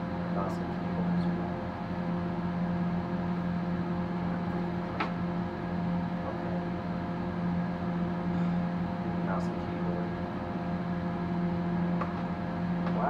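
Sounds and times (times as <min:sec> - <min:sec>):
cooling fans humming: 0:00.0 - 0:13.0.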